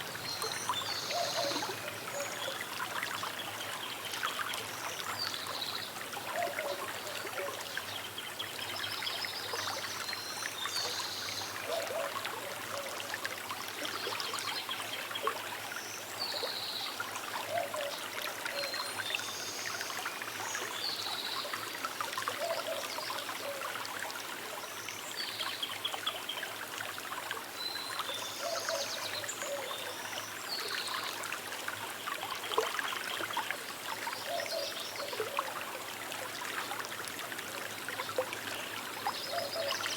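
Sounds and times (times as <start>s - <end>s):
river trickling and babbling: 0.0s - 39.9s.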